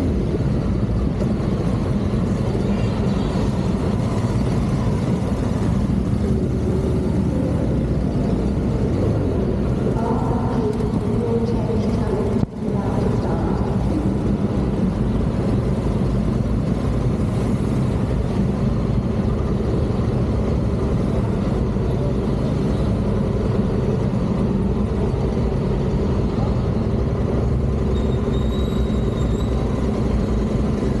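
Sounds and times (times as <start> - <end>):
motorcycle engine low rumble: 0.0 - 31.0.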